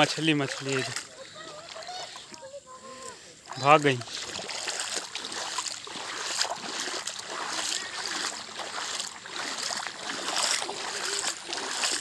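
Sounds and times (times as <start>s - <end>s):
footsteps splashing through water: 0.0s - 12.0s.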